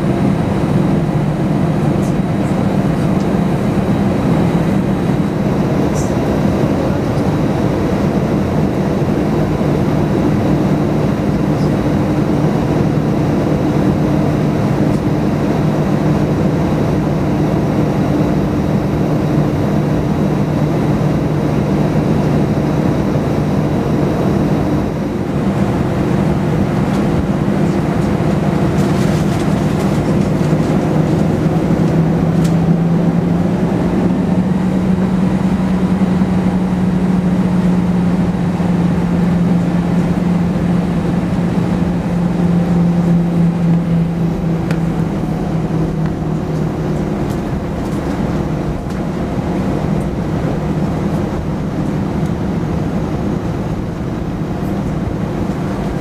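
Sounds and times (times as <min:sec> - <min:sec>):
jet engines humming from cabin: 0:00.0 - 0:56.0.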